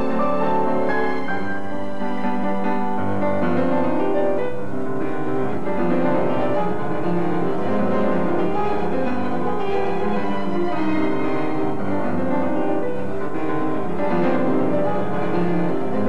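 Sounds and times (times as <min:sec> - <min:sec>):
orchestra accompaniment: 0:00.0 - 0:16.0
piano: 0:00.0 - 0:16.0.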